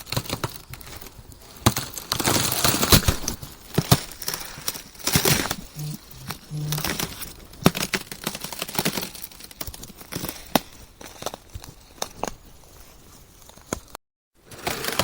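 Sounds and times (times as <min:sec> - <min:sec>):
ice cracking and crunching: 0:00.1 - 0:12.8.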